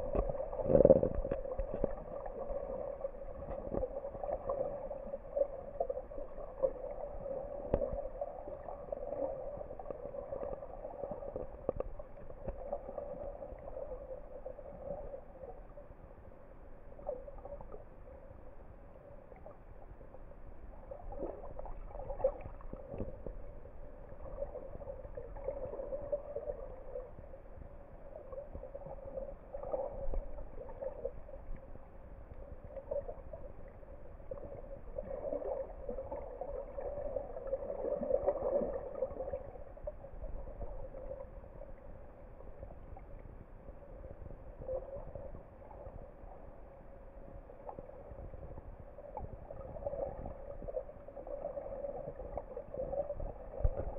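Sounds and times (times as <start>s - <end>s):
faint underwater clicks and knocks: 0.0s - 53.9s
muffled underwater wash: 0.0s - 53.9s.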